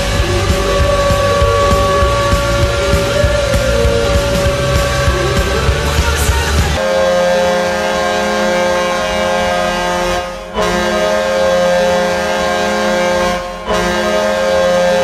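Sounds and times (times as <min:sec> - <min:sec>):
arena goal horn blasts: 0:00.0 - 0:05.6, 0:06.8 - 0:15.0.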